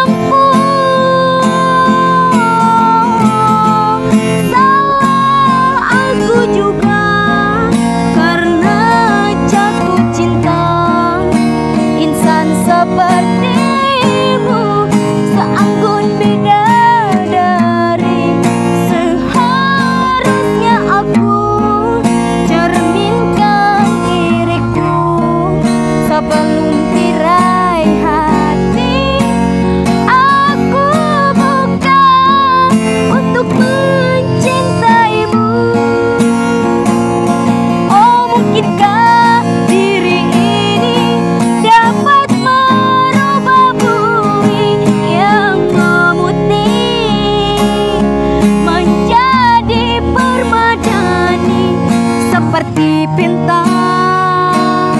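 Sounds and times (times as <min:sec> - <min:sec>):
strummed acoustic guitar: 0:00.0 - 0:54.9
woman singing ornamented melody: 0:00.0 - 0:54.9.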